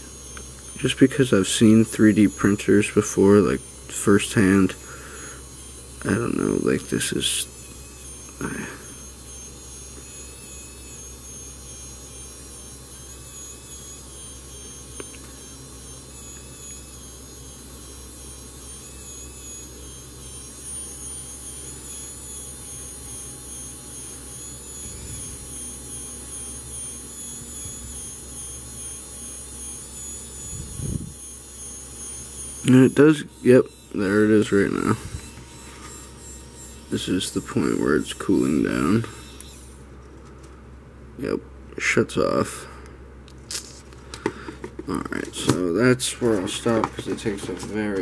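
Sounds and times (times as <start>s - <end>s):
small motor whirring: 0.0s - 40.7s, 42.2s - 48.0s
thin high whine: 0.0s - 48.0s.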